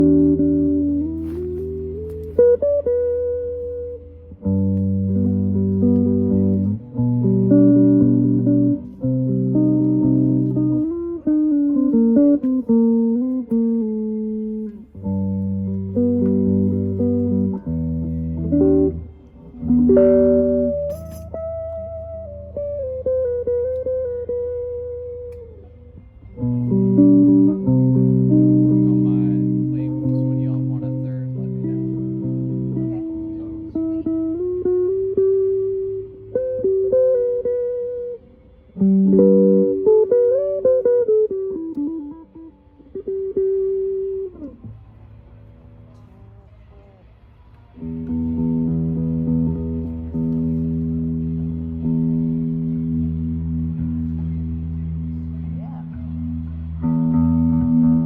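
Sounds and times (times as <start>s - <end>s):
bass notes: 0.0s - 58.0s
guitar plucked notes: 0.0s - 58.0s.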